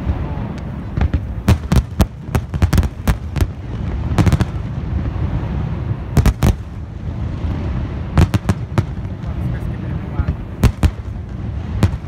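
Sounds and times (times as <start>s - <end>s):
fireworks bangs: 0.0s - 12.0s
low rumble of bursts: 0.0s - 12.0s.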